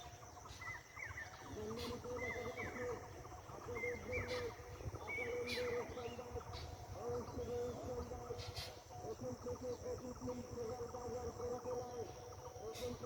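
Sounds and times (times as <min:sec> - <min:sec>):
birds calling: 0:00.0 - 0:13.0
high insect drone: 0:00.0 - 0:13.0.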